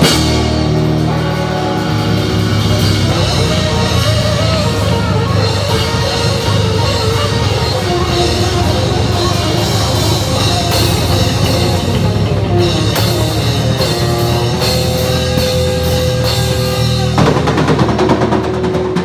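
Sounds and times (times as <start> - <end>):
drum kit: 0.0 - 19.0
electric bass: 0.0 - 19.0
electric guitar: 0.0 - 19.0.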